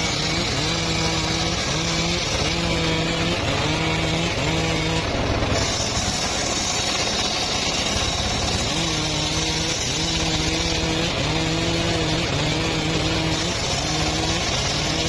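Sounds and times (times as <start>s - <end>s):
engine-driven saw cutting wood: 0.0s - 15.0s.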